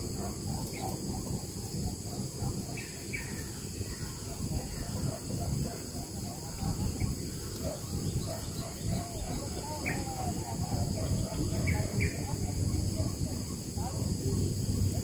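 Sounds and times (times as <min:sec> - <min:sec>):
high insect drone: 0:00.0 - 0:15.0
low wind rumble: 0:00.0 - 0:15.0
faint bird chirps and calls: 0:00.1 - 0:15.0.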